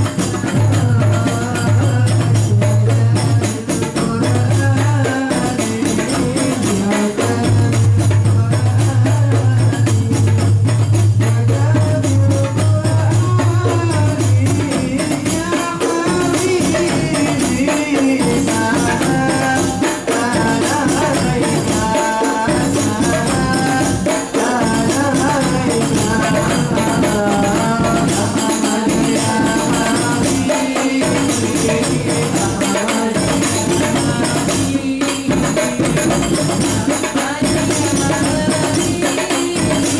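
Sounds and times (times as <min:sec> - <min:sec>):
frame drums beaten by hand: 0:00.0 - 0:39.9.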